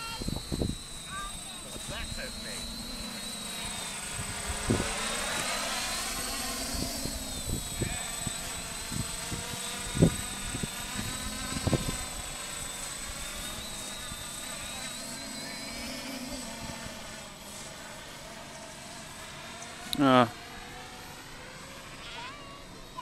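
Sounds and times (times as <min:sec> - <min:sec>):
drone propellers buzzing: 0:00.0 - 0:23.0.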